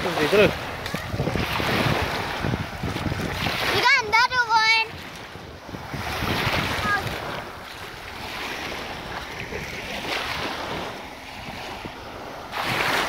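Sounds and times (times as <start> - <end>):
small waves breaking on gravel shore: 0.0 - 11.8.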